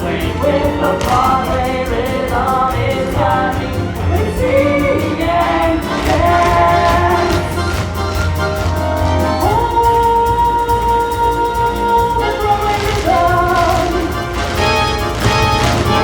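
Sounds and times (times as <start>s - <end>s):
person singing: 0.0s - 7.9s, 9.4s - 14.8s
theatre orchestra playing: 0.0s - 16.0s.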